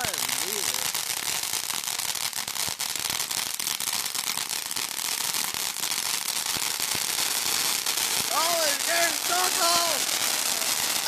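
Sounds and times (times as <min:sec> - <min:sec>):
fountain firework hissing and crackling: 0:00.0 - 0:11.0.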